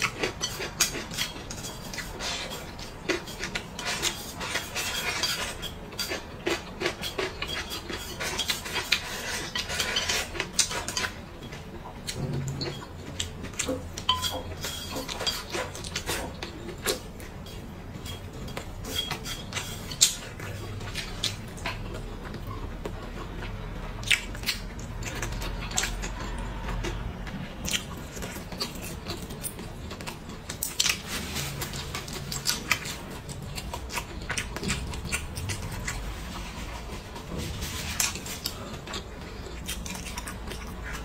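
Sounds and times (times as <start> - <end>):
wet chewing mouth sounds: 0.0 - 41.0.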